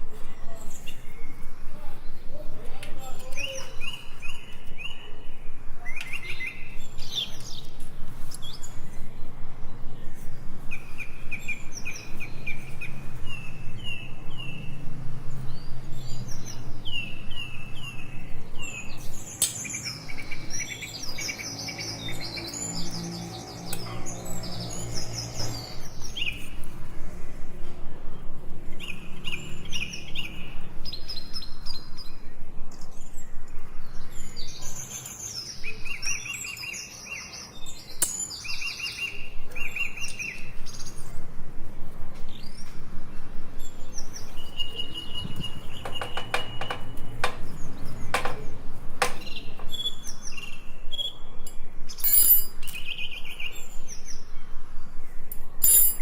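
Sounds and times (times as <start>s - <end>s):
small birds chirping: 0.1s - 56.0s.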